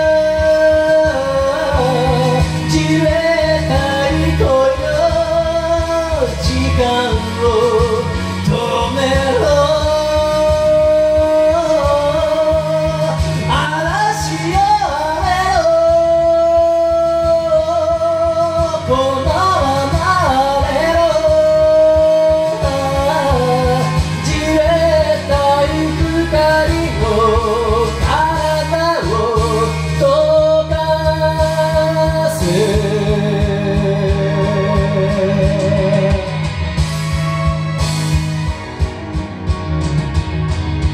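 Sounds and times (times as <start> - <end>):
karaoke backing track: 0.0 - 40.9
person singing ballad: 0.0 - 40.9.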